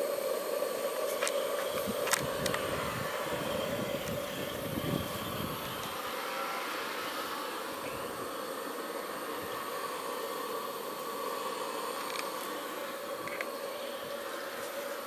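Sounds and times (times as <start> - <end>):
burner rushing hiss: 0.0 - 15.0
faint steady hum: 0.0 - 15.0.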